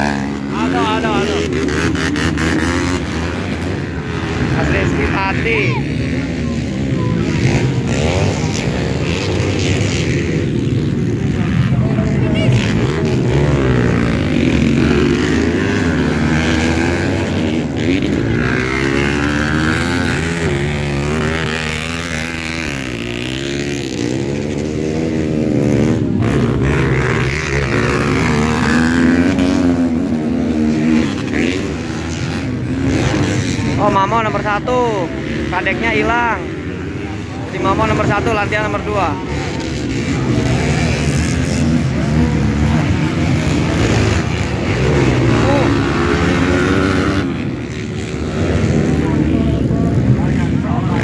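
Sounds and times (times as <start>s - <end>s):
motocross bike engines revving: 0.0s - 51.0s.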